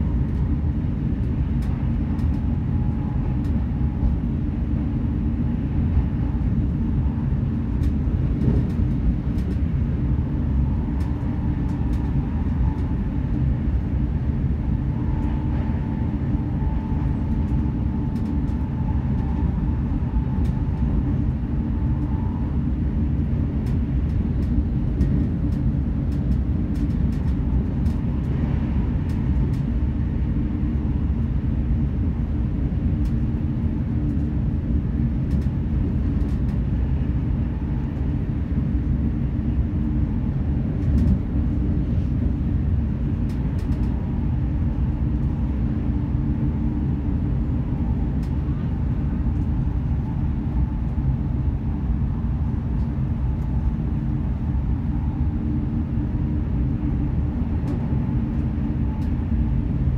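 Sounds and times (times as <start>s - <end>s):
air noise: 0.0s - 59.9s
train wheels running on rails: 0.0s - 59.9s.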